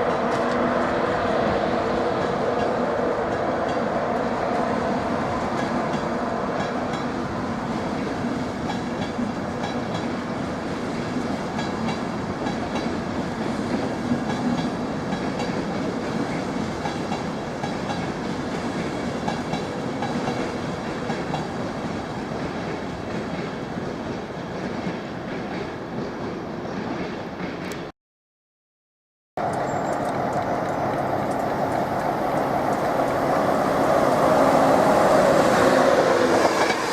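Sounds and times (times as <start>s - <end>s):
train wheels rumbling on rails: 0.0s - 27.9s, 29.4s - 36.9s.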